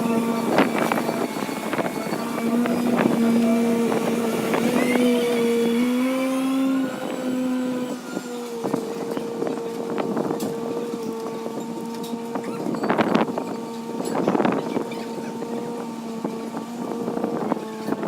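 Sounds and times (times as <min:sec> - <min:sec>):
excavator engine and hydraulics humming: 0:00.0 - 0:18.0.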